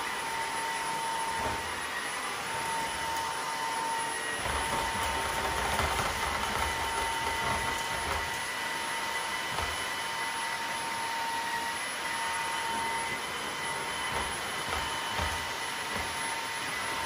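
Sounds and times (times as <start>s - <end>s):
vacuum mop motor whine: 0.0s - 17.0s.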